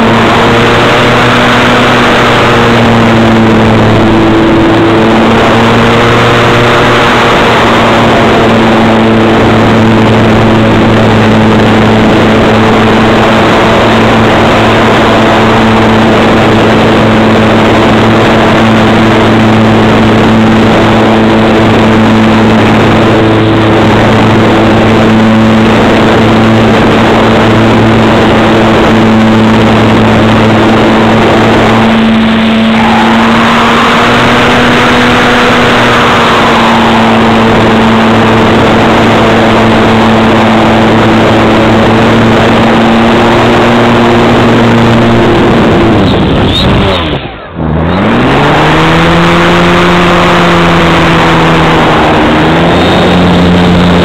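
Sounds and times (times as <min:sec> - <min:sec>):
electric motor and propeller hum: 0:00.0 - 0:54.0
loud rushing wind: 0:00.0 - 0:54.0.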